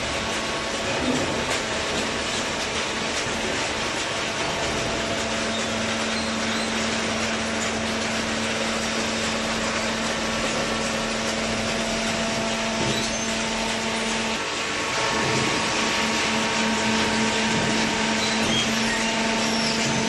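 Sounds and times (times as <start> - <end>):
baler machine humming: 0.0 - 20.0.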